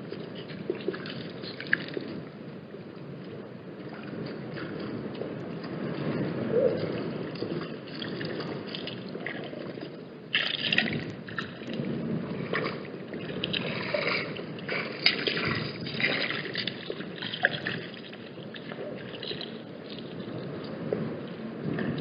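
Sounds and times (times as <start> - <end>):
water splashing and gurgling: 0.0 - 22.0
wind buffeting microphone: 0.0 - 22.0.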